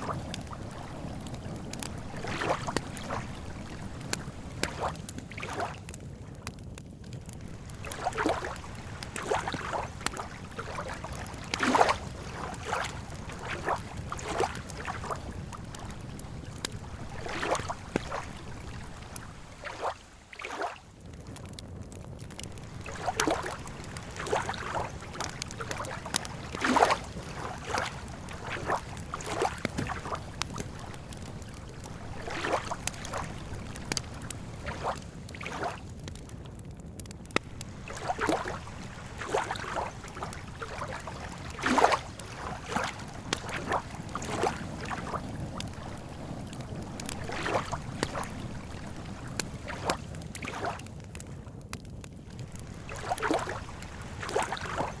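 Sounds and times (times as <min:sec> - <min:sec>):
small waves lapping at shore: 0:00.0 - 0:06.6, 0:07.3 - 0:21.6, 0:22.2 - 0:36.3, 0:37.3 - 0:51.3, 0:52.2 - 0:55.0
campfire crackling: 0:00.0 - 0:55.0.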